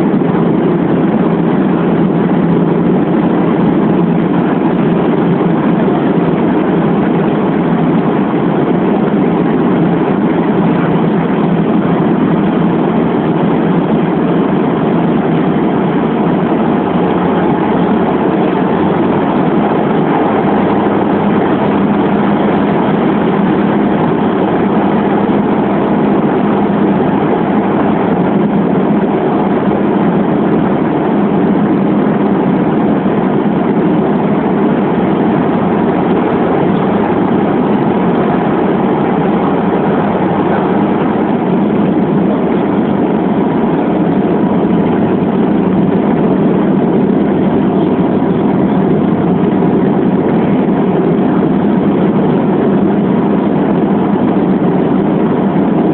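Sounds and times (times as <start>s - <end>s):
turboprop cabin drone: 0.0s - 55.9s.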